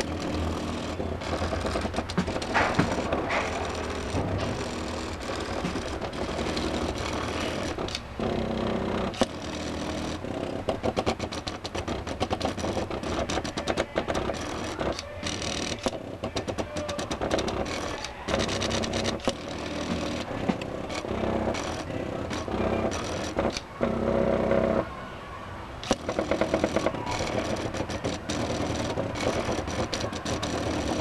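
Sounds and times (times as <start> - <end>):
rapid ticking motor steps: 0.0 - 24.9, 25.8 - 31.0
stepper motors whining: 0.0 - 25.0, 25.8 - 31.0.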